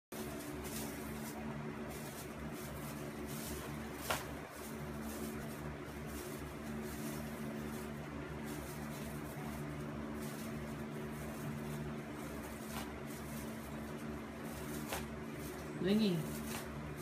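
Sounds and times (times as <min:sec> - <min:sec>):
appliance electrical hum: 0:00.0 - 0:17.0
soft rustles: 0:00.1 - 0:17.0.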